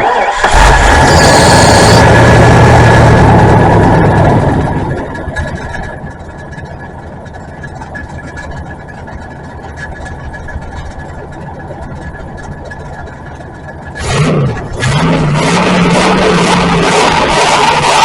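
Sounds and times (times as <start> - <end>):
engine idling with high whine: 0.0 - 18.0.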